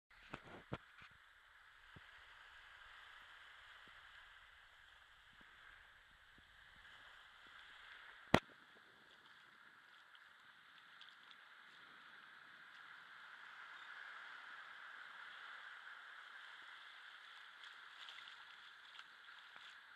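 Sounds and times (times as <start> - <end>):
small waves lapping on shore: 0.2 - 19.9.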